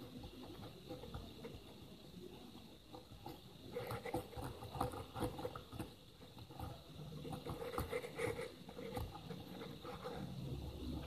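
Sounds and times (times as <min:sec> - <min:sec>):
cotton swab scrubbing circuit board: 0:00.0 - 0:11.0.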